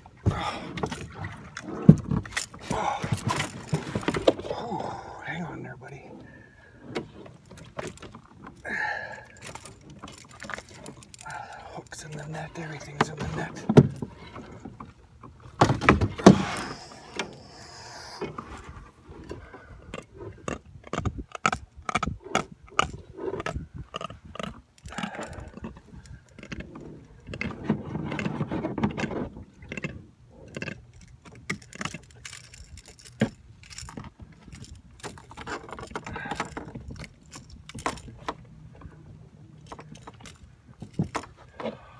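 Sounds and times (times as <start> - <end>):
clicks and knocks from handling a fish: 0.1 - 5.0, 6.9 - 41.9.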